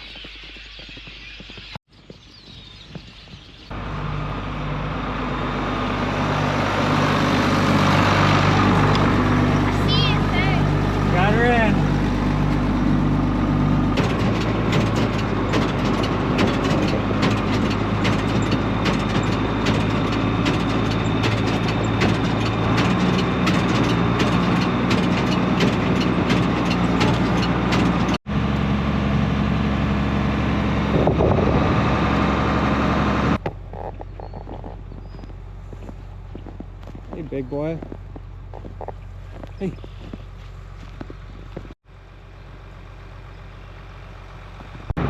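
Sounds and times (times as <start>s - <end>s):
vehicle engine running: 3.4s - 45.0s.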